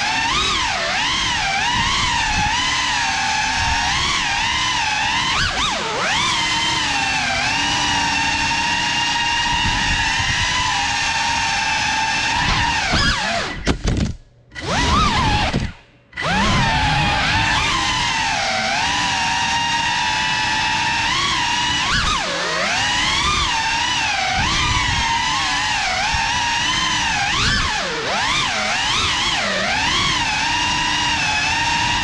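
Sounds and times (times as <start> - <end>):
drone propellers whining: 0.0 - 13.8, 14.5 - 32.0.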